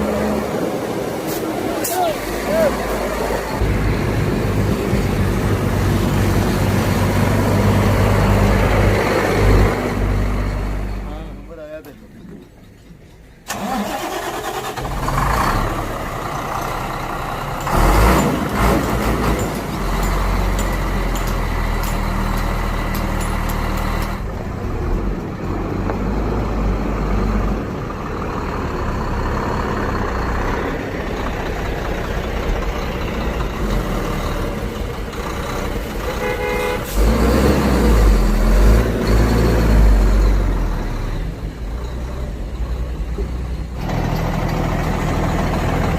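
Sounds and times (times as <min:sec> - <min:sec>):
truck diesel engine running: 0:00.0 - 0:11.9, 0:12.8 - 0:45.9.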